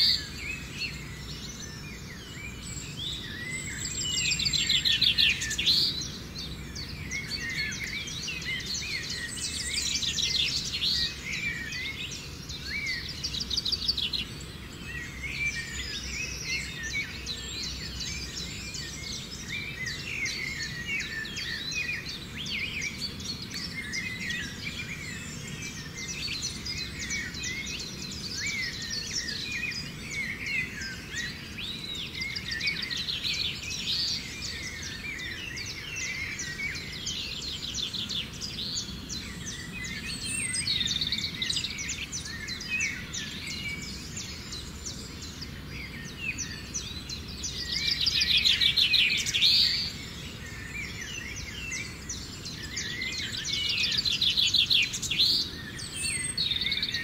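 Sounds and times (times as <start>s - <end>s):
birds chirping and twittering: 0.0s - 57.0s
low background hiss: 0.0s - 57.0s.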